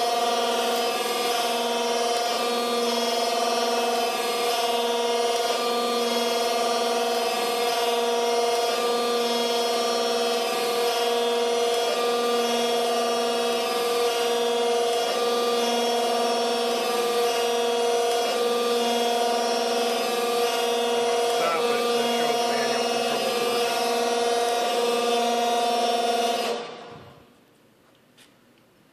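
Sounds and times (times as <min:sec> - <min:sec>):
grinder machine whine: 0:00.0 - 0:27.3.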